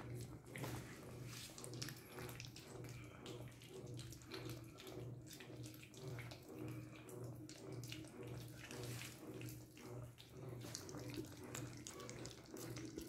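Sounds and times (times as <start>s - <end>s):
puppies lapping wet food: 0.0s - 13.0s.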